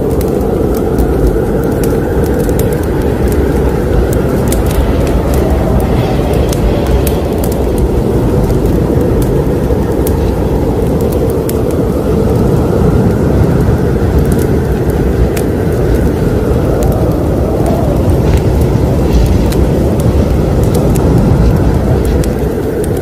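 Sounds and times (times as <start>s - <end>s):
fire crackles and pops: 0.0s - 23.0s
flames rushing: 0.0s - 23.0s.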